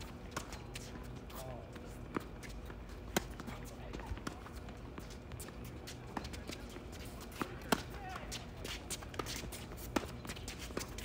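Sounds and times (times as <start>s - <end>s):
footsteps on hard court: 0.0s - 11.0s
tennis racquets hitting ball: 2.1s - 11.0s.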